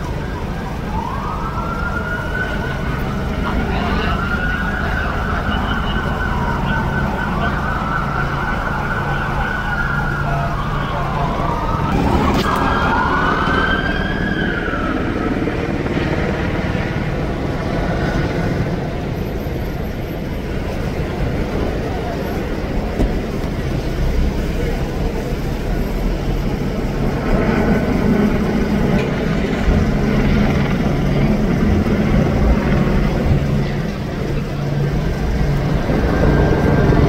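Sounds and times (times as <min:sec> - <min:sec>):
emergency vehicle sirens wailing: 0:00.0 - 0:37.0
low street rumble: 0:00.0 - 0:37.0.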